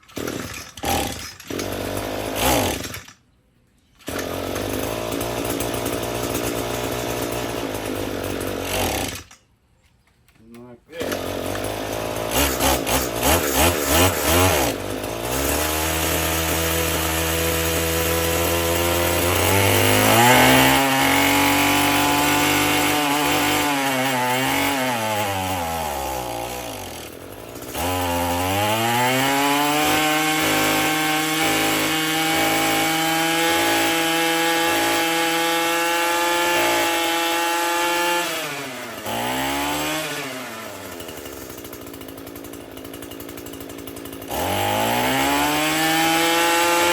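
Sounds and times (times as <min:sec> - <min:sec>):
string trimmer engine revving: 0:00.0 - 0:03.1, 0:04.0 - 0:09.4, 0:10.9 - 0:46.9.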